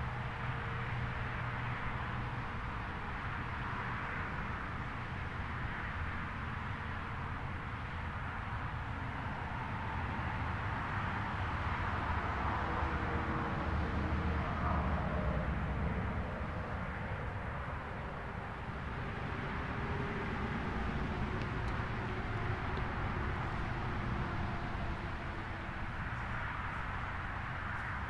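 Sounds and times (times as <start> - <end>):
road traffic rushing: 0.0 - 28.0.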